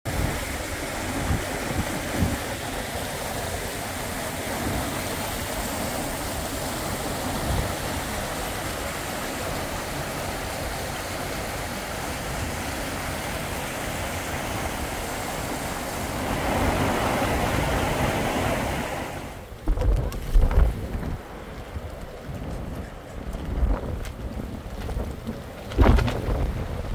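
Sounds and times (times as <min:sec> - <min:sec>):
wind buffeting microphone: 0:00.0 - 0:26.9
floodwater rushing: 0:00.1 - 0:26.9.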